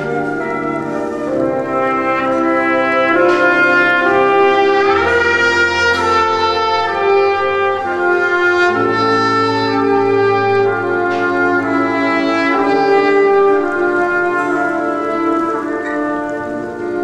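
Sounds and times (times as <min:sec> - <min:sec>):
slow orchestral music: 0:00.0 - 0:17.0.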